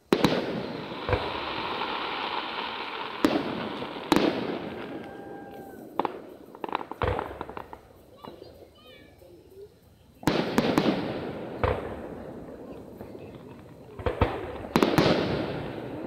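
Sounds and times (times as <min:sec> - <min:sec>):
firework bangs: 0:00.0 - 0:08.6, 0:10.2 - 0:16.0
firework crackling: 0:00.0 - 0:16.0.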